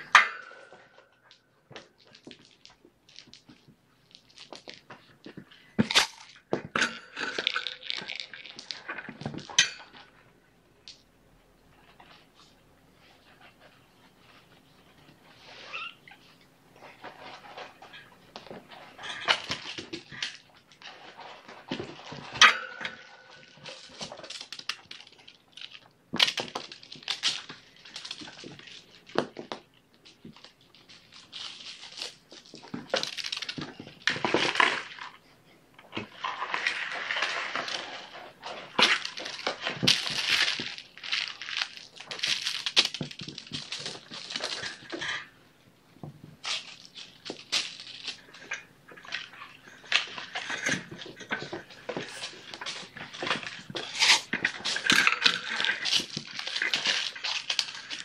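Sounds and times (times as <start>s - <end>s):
rustling and scratching of toys: 0.0s - 58.0s.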